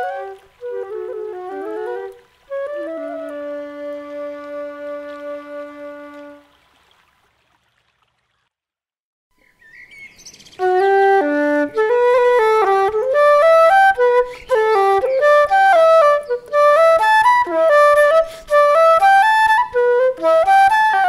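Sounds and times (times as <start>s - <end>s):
instrumental background music: 0.0s - 6.4s, 10.6s - 21.0s.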